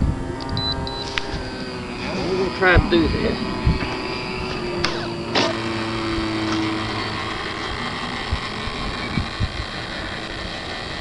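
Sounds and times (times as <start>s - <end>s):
model airplane engine idling: 0.0s - 11.0s.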